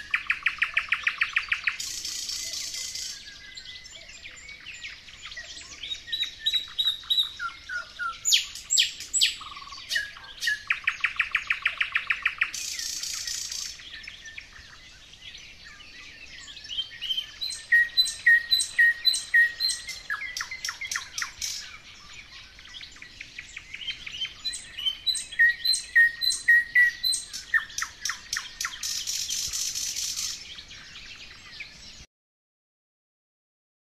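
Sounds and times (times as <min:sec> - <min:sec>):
nightingale singing: 0:00.0 - 0:32.1.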